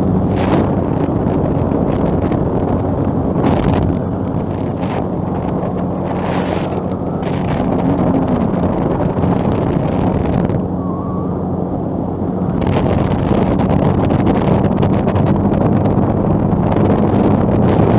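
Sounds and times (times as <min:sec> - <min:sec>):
aircraft engine droning: 0:00.0 - 0:17.9
wind noise on microphone: 0:00.0 - 0:17.9.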